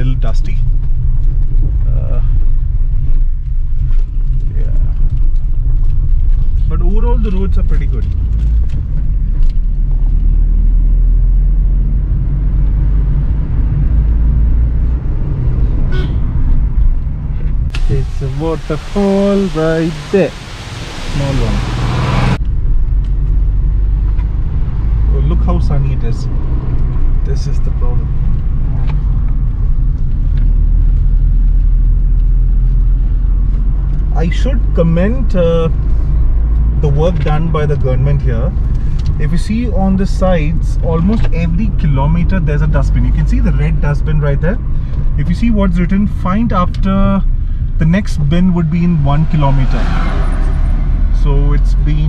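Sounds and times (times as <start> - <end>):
car engine and tyre rumble: 0.0 - 52.0.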